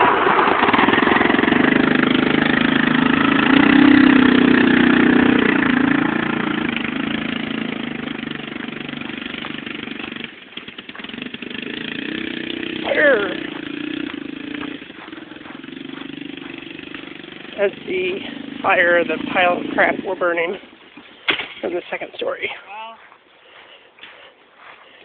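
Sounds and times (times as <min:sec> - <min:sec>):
atv engine driving past: 0:00.0 - 0:22.6.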